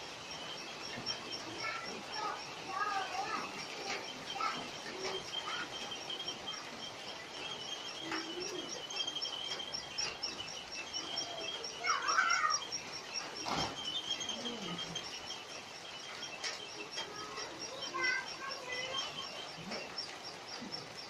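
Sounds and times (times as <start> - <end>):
rapid high chirping: 0.0 - 21.0.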